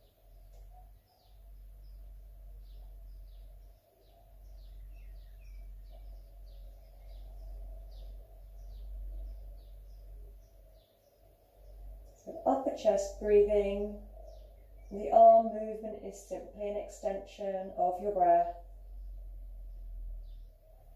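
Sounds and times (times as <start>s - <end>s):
birds chirping: 0.0s - 20.9s
low steady rumble: 0.0s - 20.9s.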